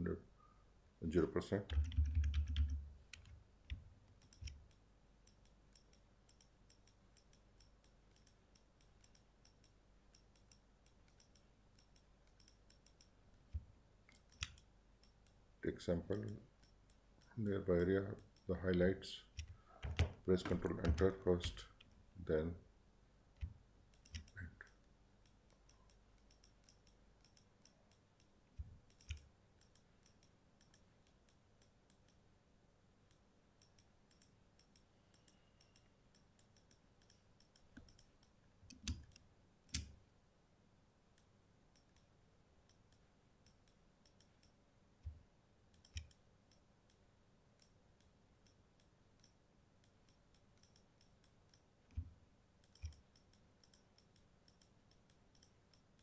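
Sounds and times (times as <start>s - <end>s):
computer mouse clicking: 1.6s - 15.4s, 18.2s - 22.0s, 23.4s - 32.2s, 33.1s - 40.0s, 41.2s - 42.1s, 42.7s - 47.0s, 47.6s - 56.0s.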